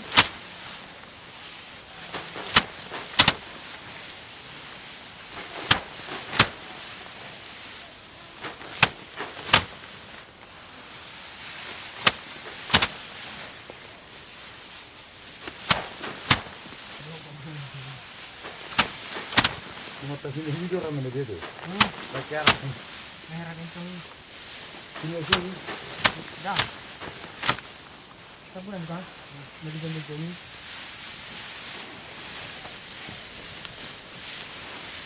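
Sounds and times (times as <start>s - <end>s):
rice sheaves whacking: 0.0s - 35.0s.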